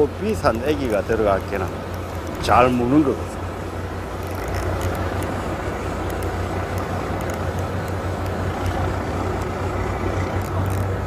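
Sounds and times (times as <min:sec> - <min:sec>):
boat engine humming: 0:00.0 - 0:11.0
wash of noise: 0:00.0 - 0:11.0.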